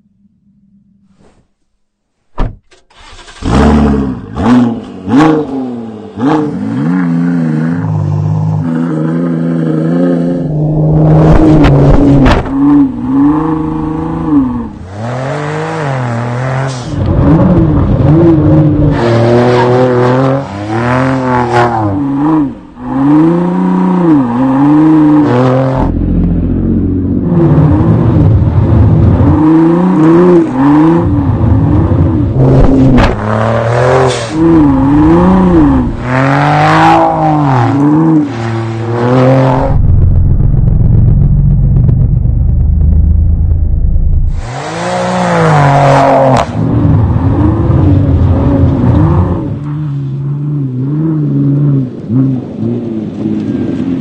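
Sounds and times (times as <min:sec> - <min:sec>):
car engine revving: 0:03.0 - 0:53.9.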